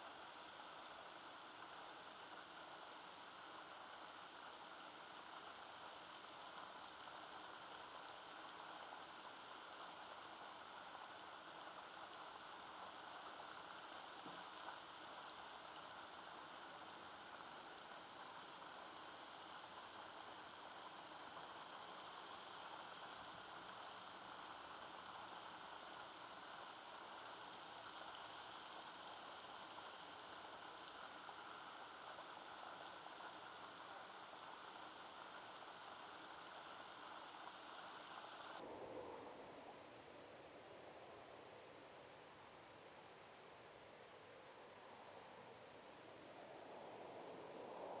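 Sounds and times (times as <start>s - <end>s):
faint outdoor hiss: 0.0s - 48.0s.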